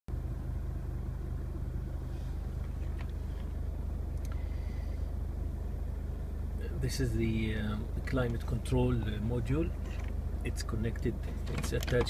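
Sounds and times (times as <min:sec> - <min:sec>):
van engine idling: 0:00.1 - 0:12.0.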